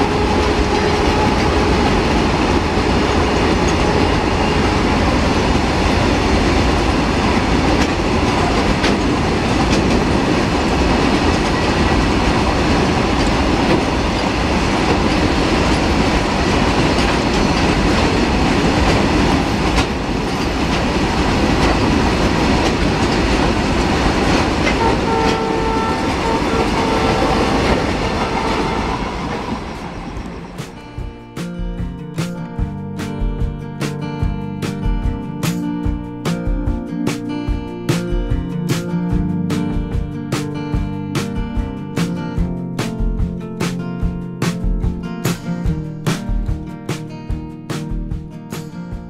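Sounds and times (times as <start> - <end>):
train wheels clattering on rails: 0.0 - 49.0.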